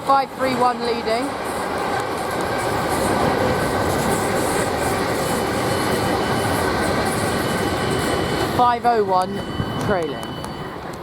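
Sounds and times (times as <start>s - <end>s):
train wheels on track: 0.0s - 11.0s.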